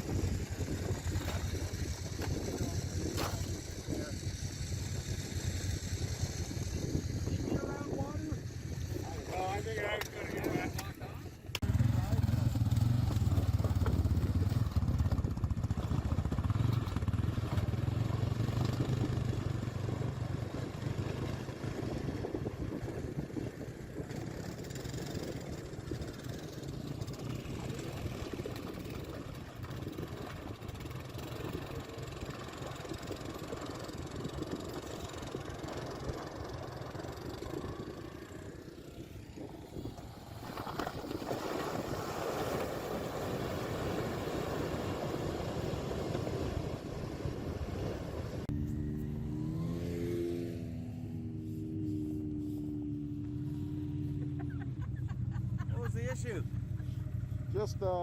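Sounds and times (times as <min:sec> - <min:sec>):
off-road vehicle engine running: 0:00.0 - 0:58.0
rough ride noise: 0:00.0 - 0:58.0.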